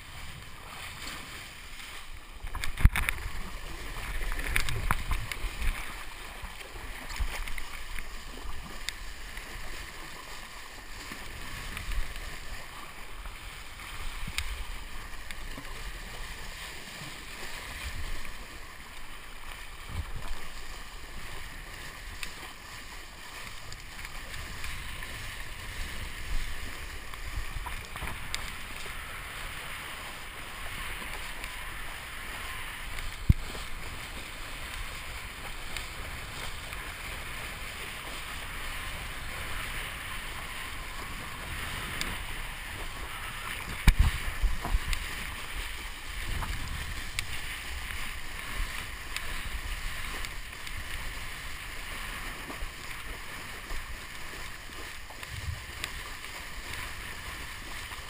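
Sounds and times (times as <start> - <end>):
water rushing and spraying: 0.0 - 58.0.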